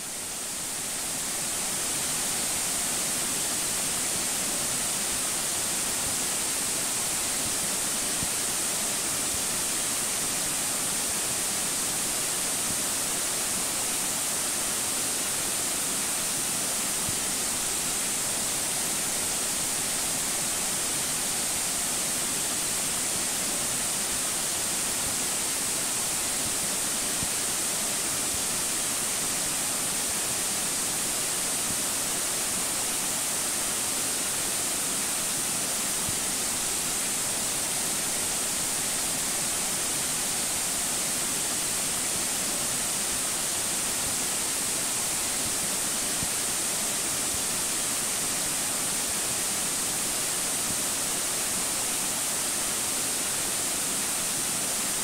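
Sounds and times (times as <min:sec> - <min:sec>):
waterfall rushing over rock: 0:00.0 - 0:55.0.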